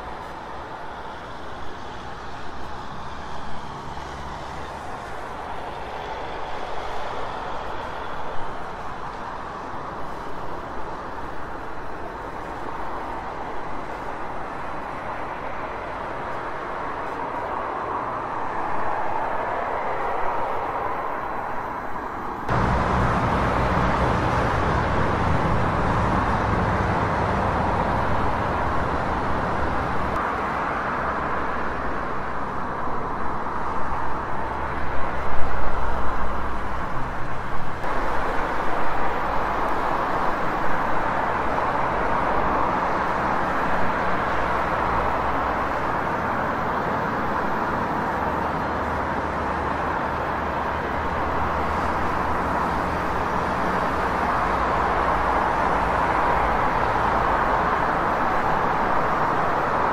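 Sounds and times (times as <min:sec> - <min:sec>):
traffic noise from passing cars: 0:00.0 - 0:59.9.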